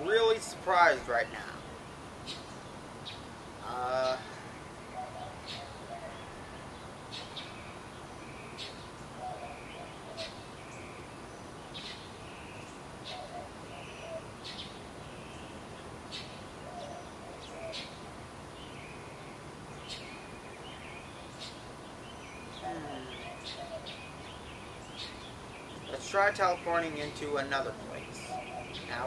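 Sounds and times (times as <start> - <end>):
lower bird calls: 0.0 - 29.0
steady background hiss: 0.0 - 29.0.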